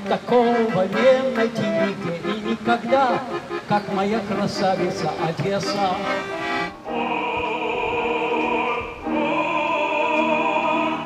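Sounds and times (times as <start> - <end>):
person singing operatic notes: 0.0 - 11.0.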